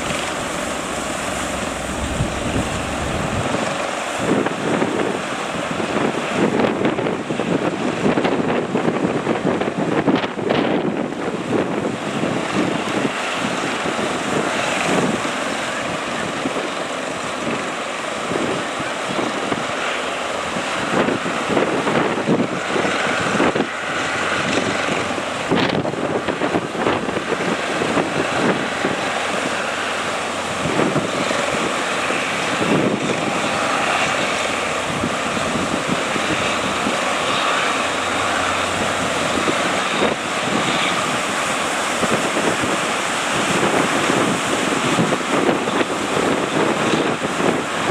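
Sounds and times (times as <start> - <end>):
breaking surf: 0.0 - 47.9
wind buffeting microphone: 0.0 - 47.9.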